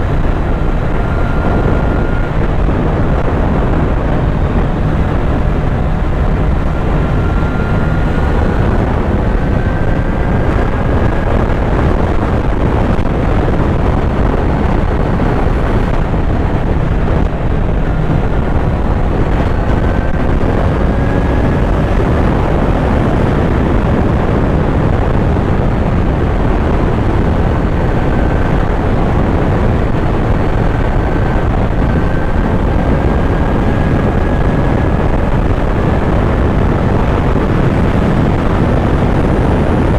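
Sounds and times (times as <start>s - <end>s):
low rush of wind noise: 0.0s - 39.9s
motorcycle engine accelerating: 0.0s - 39.9s.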